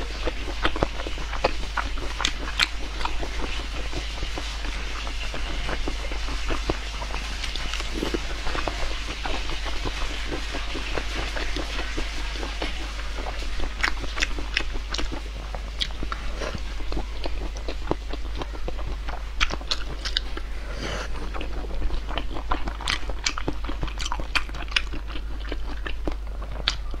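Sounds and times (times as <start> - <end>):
chewing and crunching: 0.0 - 27.0
low electrical hum: 0.0 - 27.0.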